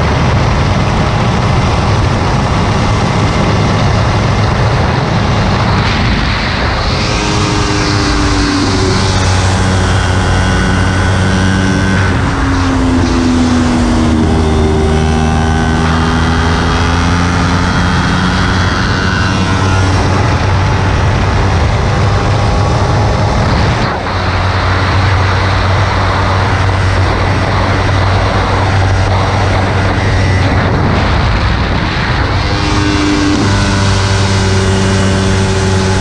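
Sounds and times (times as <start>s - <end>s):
motorcycle engine revving: 0.0s - 36.0s
wind rushing on microphone: 0.0s - 36.0s.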